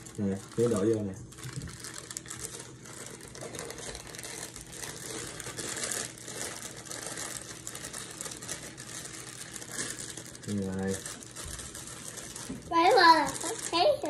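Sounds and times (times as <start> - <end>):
dry mix pouring into bowl: 0.0 - 14.0
plastic bag crinkling: 0.0 - 14.0.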